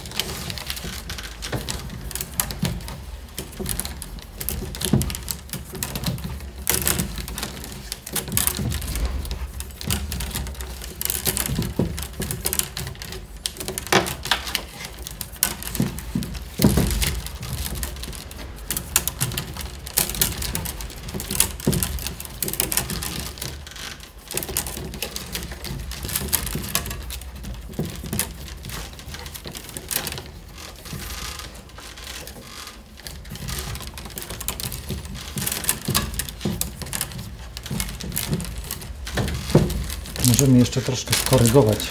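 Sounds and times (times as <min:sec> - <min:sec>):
wicker rods clicking and scraping: 0:00.0 - 0:41.9.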